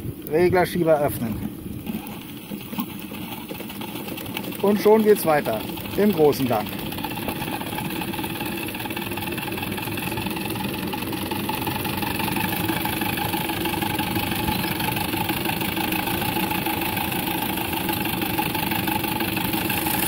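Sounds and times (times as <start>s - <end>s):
model steam engine running: 3.0s - 20.0s.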